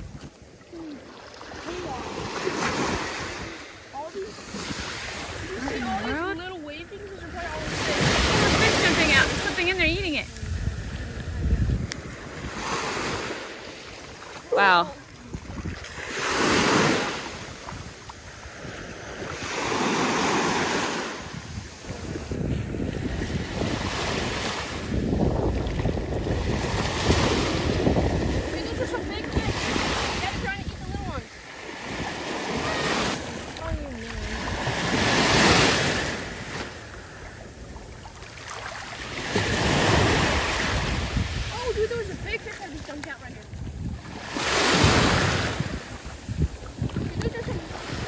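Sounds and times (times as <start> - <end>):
ocean waves washing in: 0.0 - 48.0
wind buffeting microphone: 0.0 - 48.0.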